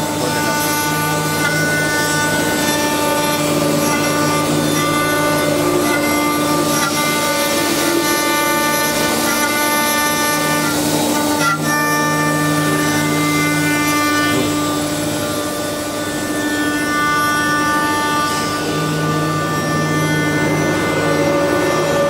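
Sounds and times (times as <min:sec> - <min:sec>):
machine whine: 0:00.0 - 0:22.0
wood cutting noise: 0:00.0 - 0:22.0.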